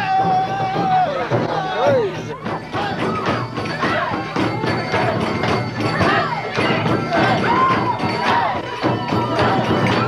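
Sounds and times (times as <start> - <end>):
crowd singing and calling: 0.0 - 10.0
drums beating steady rhythm: 0.0 - 10.0.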